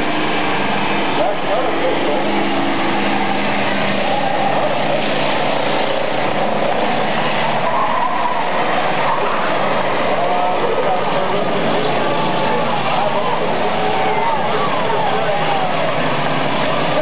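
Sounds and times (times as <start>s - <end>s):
racing car engines droning: 0.0s - 17.0s.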